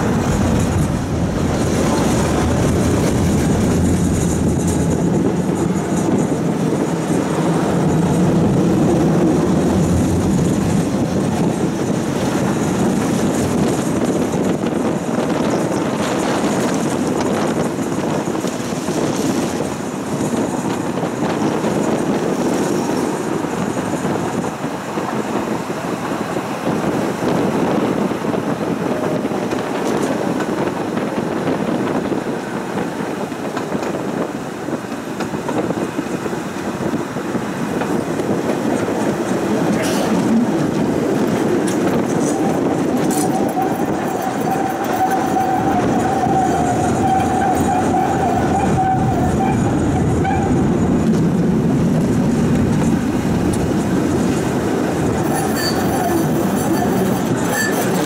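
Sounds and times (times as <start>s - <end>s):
tram wheels on rails: 0.0s - 58.0s.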